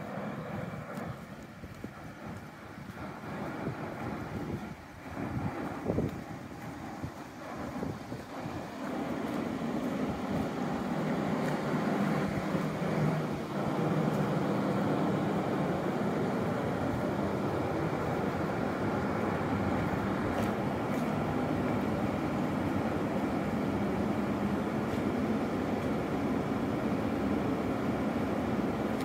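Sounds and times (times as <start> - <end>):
electric train low hum: 0.0 - 29.0.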